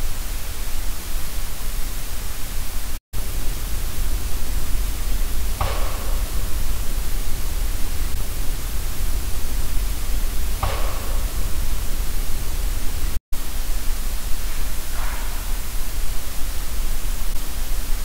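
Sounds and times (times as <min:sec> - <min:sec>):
loud hiss with low rumble: 0:00.0 - 0:18.0.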